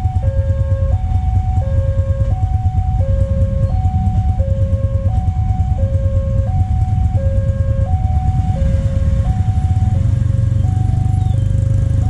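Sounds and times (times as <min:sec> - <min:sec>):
two-tone crossing alarm chime: 0:00.0 - 0:10.0
motorcycles idling: 0:00.0 - 0:12.0
passing train rumble: 0:00.0 - 0:12.0.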